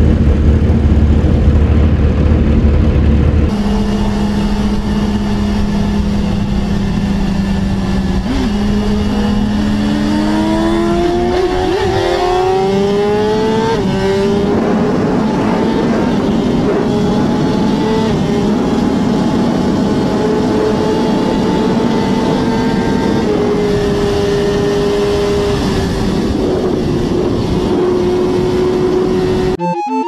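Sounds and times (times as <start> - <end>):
deeper motorcycle engine: 0.0 - 29.6
motorcycle engine at full throttle: 0.0 - 29.6.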